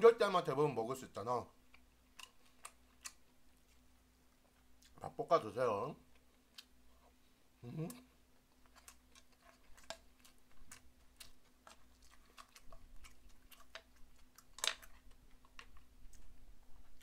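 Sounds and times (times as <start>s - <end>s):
quiet chewing with wet clicks: 1.5s - 5.2s, 6.0s - 7.2s, 7.9s - 17.0s.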